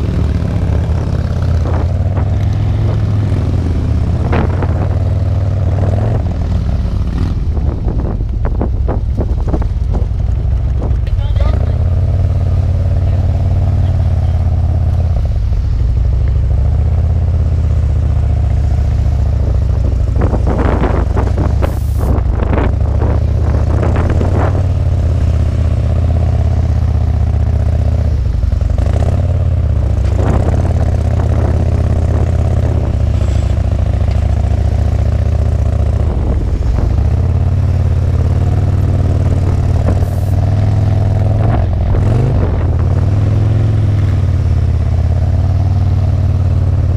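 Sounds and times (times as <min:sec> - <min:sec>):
motorcycle engines running: 0:00.0 - 0:46.9.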